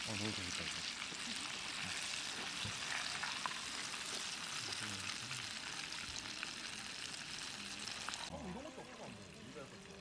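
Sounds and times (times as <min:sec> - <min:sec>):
chicken sizzling in hot oil: 0:00.0 - 0:10.0
oil crackles and pops: 0:00.0 - 0:10.0.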